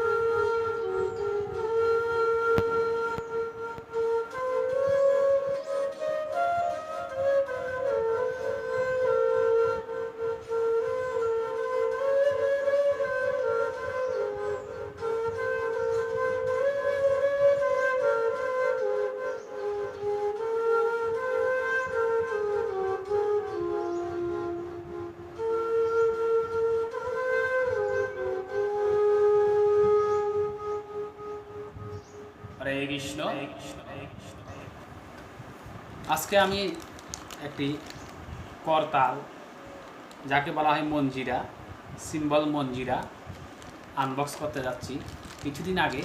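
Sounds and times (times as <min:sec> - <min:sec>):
flute melody: 0:00.0 - 0:35.0, 0:42.0 - 0:46.0.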